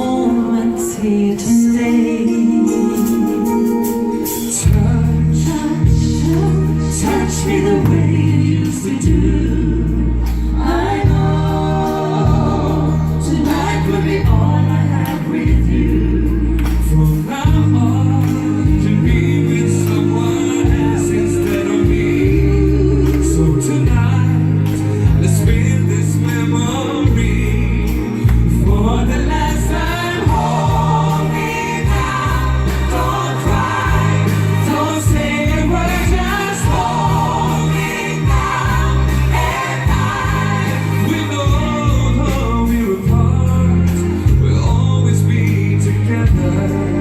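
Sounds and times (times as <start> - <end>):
live band music: 0.0 - 47.0
steady bass line: 3.2 - 47.0.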